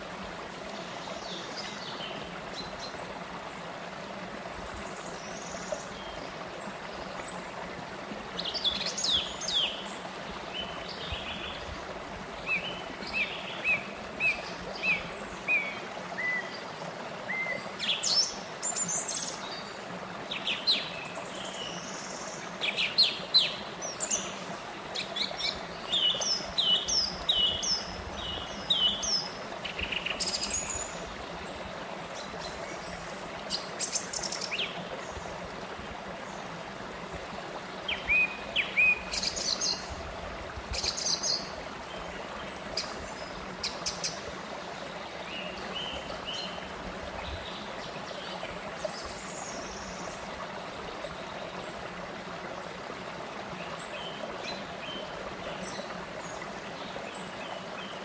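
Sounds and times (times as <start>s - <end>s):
stream running over rocks: 0.0s - 58.0s
songbirds chirping: 0.5s - 40.0s, 40.6s - 58.0s.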